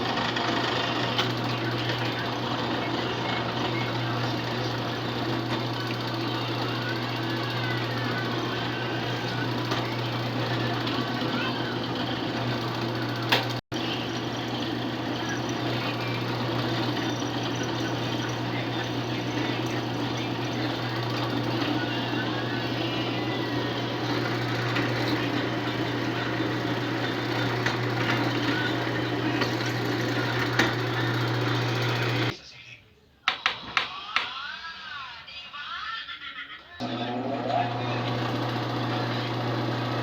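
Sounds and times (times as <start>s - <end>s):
power tool motor whirring: 0.0s - 32.3s.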